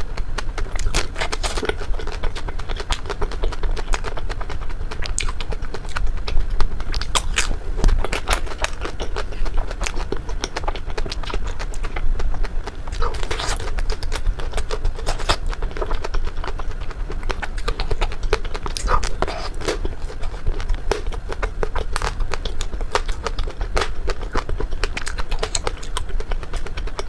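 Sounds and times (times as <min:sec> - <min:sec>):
crunching ice cream bar: 0:00.0 - 0:27.0.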